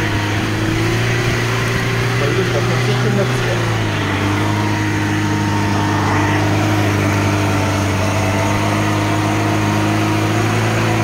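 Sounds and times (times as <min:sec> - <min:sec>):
car engine running under load: 0:00.0 - 0:11.0.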